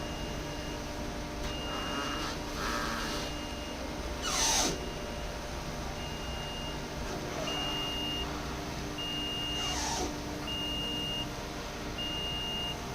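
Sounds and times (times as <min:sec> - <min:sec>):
steady machine hum: 0:00.0 - 0:12.9.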